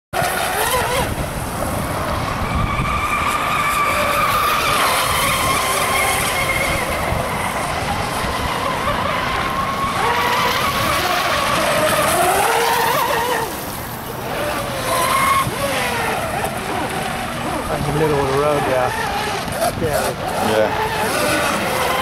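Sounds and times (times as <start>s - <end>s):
high motor whine of model boats: 0.2s - 22.0s.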